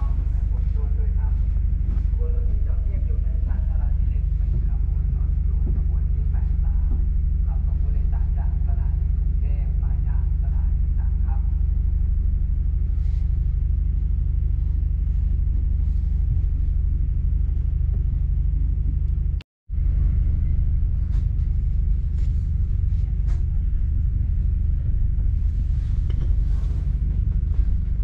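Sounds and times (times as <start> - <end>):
train rumbling from inside carriage: 0.0 - 28.0.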